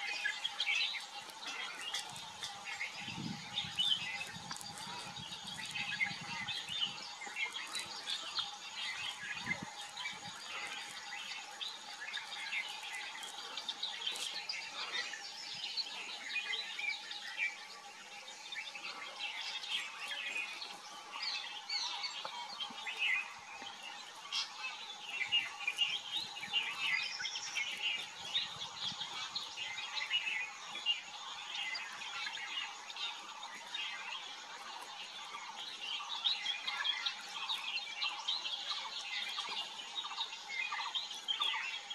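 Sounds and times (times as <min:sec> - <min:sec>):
many birds chirping: 0:00.0 - 0:41.9.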